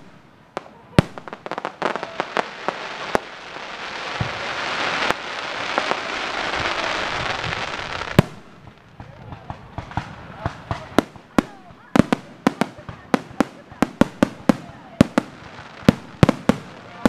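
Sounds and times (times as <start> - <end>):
fireworks crackling: 0.0 - 17.0
fireworks popping and banging: 0.0 - 17.0.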